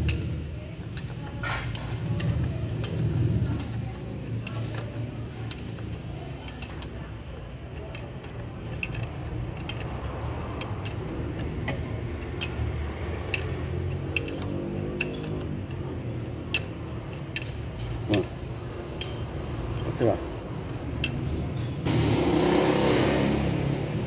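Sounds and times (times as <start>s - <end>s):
sharp metallic clicks and clinks: 0.0s - 21.9s.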